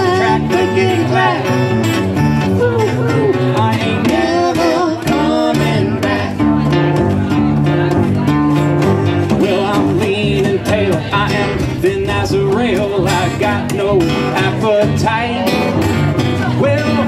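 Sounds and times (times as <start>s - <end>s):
acoustic guitar strummed: 0.0s - 17.0s
upright bass plucked: 0.0s - 17.0s.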